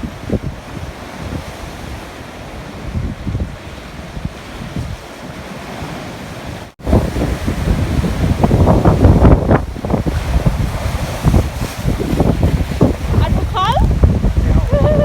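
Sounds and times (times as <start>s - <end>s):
sea waves surging: 0.0s - 15.0s
wind buffeting the microphone: 0.0s - 15.0s.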